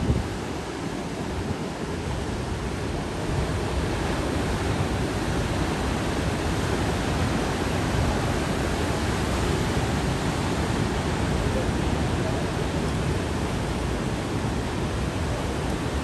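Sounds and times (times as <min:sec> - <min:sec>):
ocean surf breaking: 0:00.0 - 0:16.0
wind: 0:00.0 - 0:16.0.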